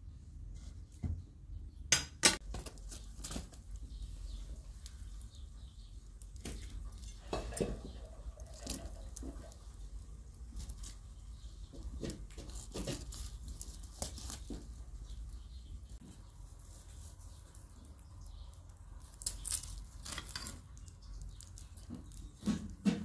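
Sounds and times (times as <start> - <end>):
wood fire crackling: 2.4 - 23.0.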